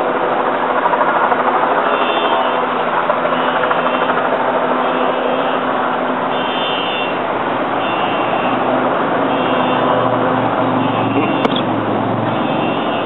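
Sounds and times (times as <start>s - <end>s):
helicopter hovering drone: 0.0s - 13.0s.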